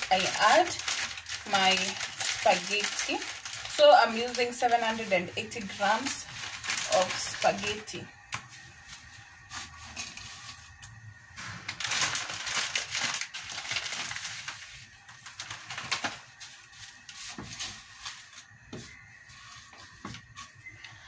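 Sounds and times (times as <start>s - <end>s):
dry spaghetti rustling and clicking: 0.0s - 11.0s, 11.8s - 21.0s.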